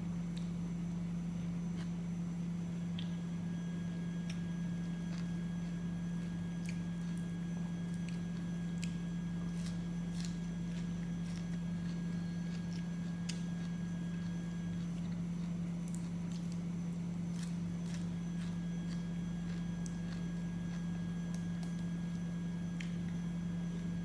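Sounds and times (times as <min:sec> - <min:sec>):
steady low hum: 0:00.0 - 0:24.0
wet chewing and smacking: 0:00.2 - 0:24.0.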